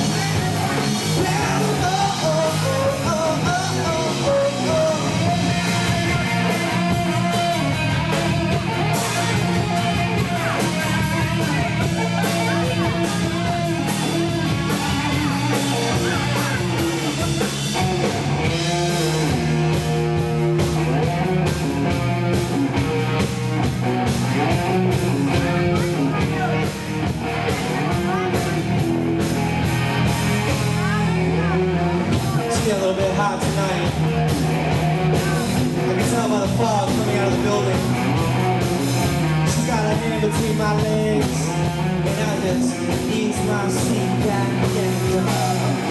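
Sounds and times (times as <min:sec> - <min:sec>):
electric guitar: 0:00.0 - 0:45.9
live rock band playing: 0:00.0 - 0:45.9.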